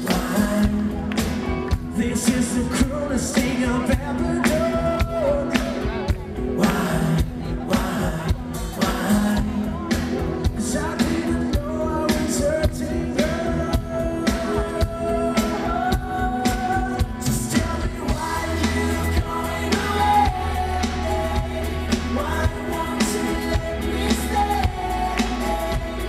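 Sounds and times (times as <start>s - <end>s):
electric guitar: 0.0s - 26.0s
man singing: 0.0s - 26.0s
steady drum beat: 0.0s - 26.0s.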